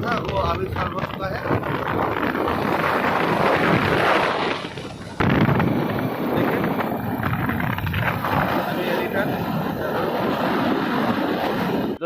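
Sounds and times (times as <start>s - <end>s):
motorcycle road and engine noise: 0.0s - 12.0s
wind buffeting microphone: 0.0s - 12.0s.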